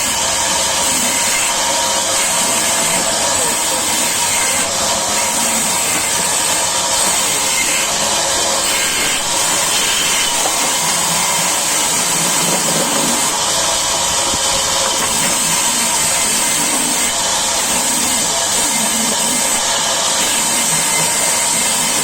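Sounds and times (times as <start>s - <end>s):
saw cutting timber: 0.0s - 22.0s.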